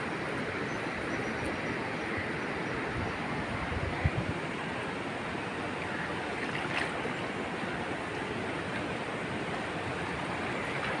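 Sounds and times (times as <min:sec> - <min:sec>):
shallow river water rushing: 0:00.0 - 0:11.0.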